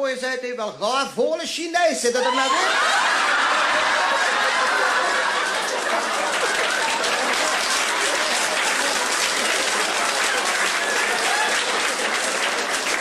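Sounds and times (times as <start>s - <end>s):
audience applauding: 2.2s - 13.0s
voices in crowd: 2.2s - 13.0s.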